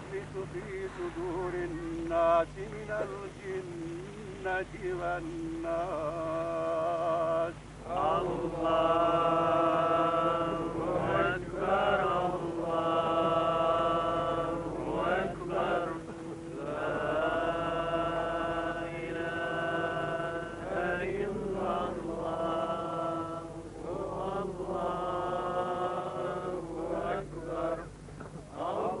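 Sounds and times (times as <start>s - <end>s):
person chanting: 0.0s - 27.9s, 28.6s - 29.0s.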